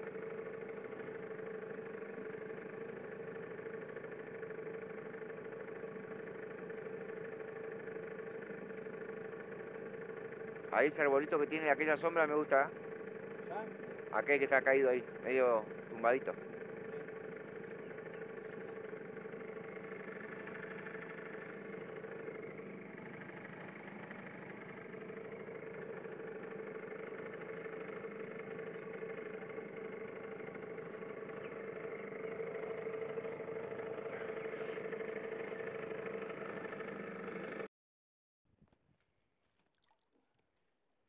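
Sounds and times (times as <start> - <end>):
outboard motor running: 0.0 - 37.7.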